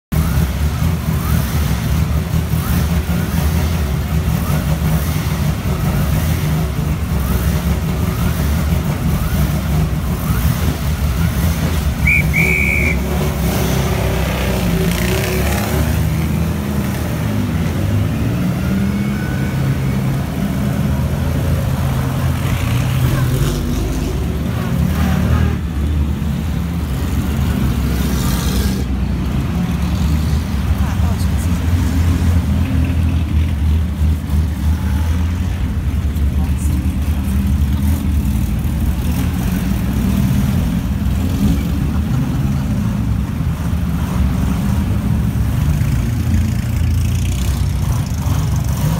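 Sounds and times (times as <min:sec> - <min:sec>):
racing car engines at low revs: 0:00.1 - 0:48.9.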